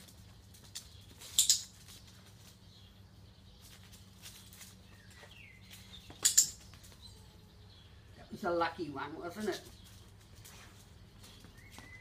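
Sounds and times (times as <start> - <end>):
puppy paws on concrete: 0.0 - 12.0.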